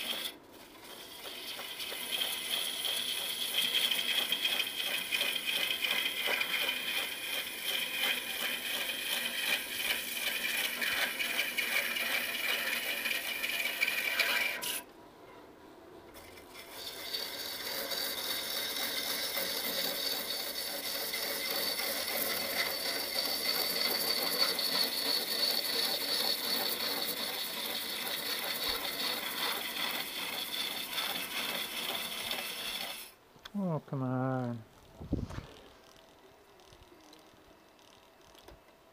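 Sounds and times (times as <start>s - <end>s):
gouge cutting wood on lathe: 0.0s - 14.8s, 16.2s - 33.2s.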